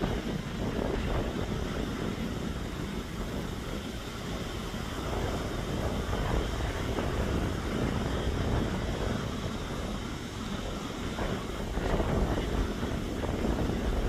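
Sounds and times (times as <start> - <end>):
jet engines rumbling: 0.0 - 14.0
wind buffeting microphone: 0.0 - 14.0.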